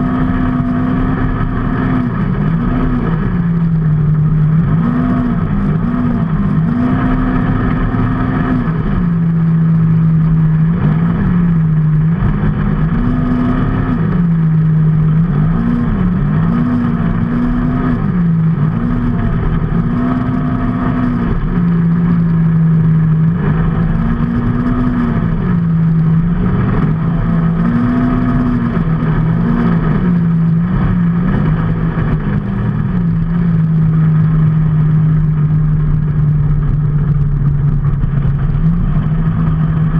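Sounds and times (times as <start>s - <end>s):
road and wind noise: 0.0s - 39.9s
vehicle engine revving: 0.0s - 39.9s.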